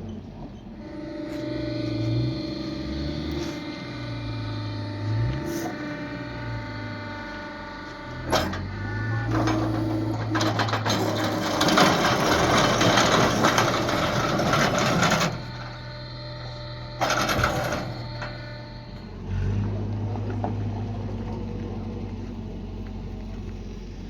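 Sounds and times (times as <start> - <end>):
motor running: 0.7 - 24.0.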